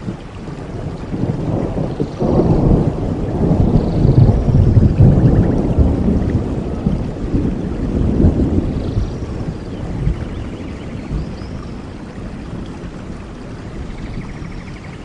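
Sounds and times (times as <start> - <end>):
thunder rumbling: 0.0 - 14.6
rain hissing: 0.0 - 15.0.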